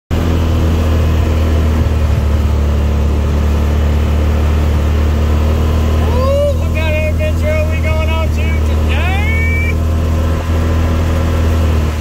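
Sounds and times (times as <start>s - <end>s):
vehicle engine humming steadily: 0.1s - 12.0s.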